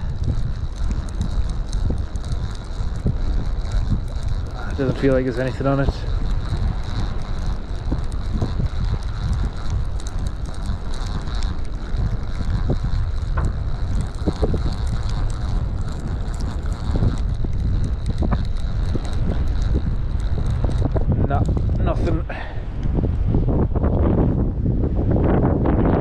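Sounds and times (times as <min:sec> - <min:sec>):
fishing reel clicks: 0:00.0 - 0:22.9
wind buffeting microphone: 0:00.0 - 0:26.0.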